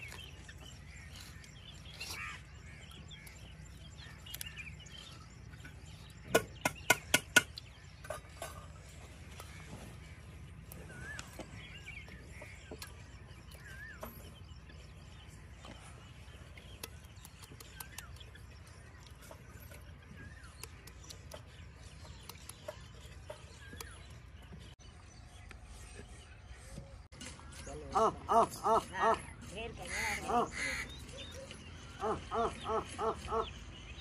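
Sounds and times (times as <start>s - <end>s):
bird chirps: 0.0s - 34.0s.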